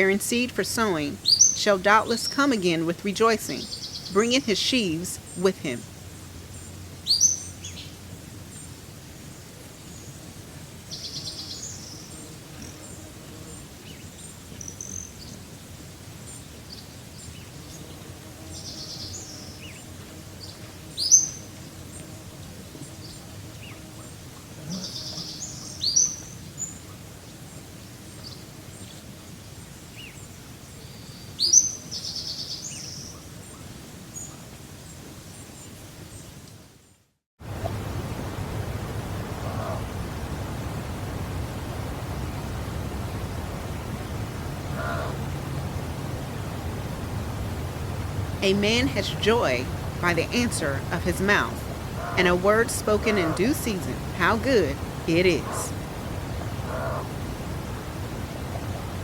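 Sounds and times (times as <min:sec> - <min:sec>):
songbirds calling: 0:00.0 - 0:36.4, 0:41.6 - 0:59.0
faint background hiss: 0:00.0 - 0:59.0.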